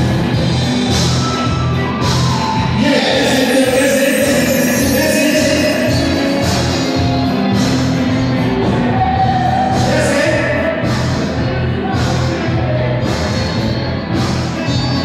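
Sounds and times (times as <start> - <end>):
music with singing and beat: 0.0 - 15.0.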